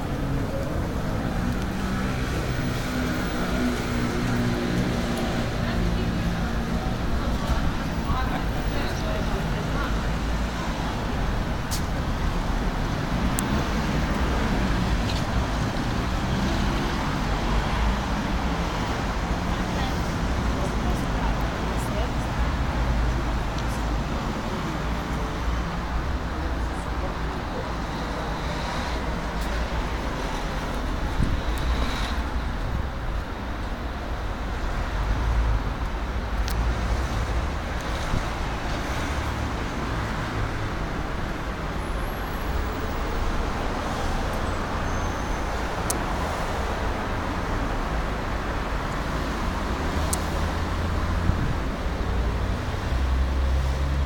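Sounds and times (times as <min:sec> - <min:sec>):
cars passing on busy road: 0:00.0 - 0:54.0.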